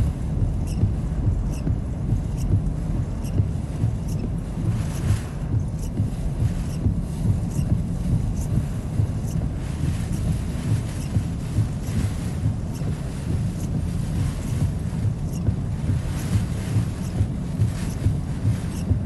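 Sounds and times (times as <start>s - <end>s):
strong wind gusting on microphone: 0.0s - 19.0s.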